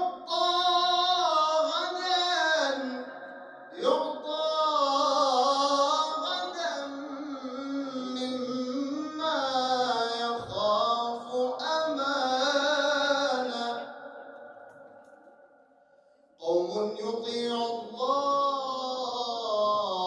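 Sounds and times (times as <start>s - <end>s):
man chanting into a microphone: 0.0s - 14.9s, 16.4s - 20.0s.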